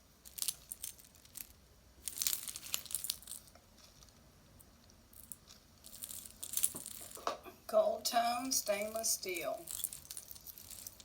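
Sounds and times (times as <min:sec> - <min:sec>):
jewelry clinking and rustling: 0:00.2 - 0:07.4, 0:08.7 - 0:11.0.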